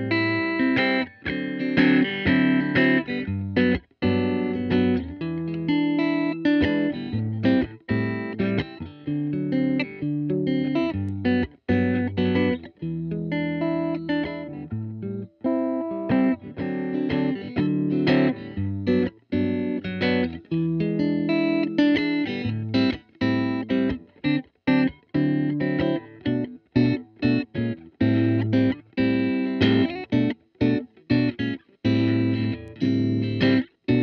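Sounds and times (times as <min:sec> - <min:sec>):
electric guitar riff: 0:00.0 - 0:34.0.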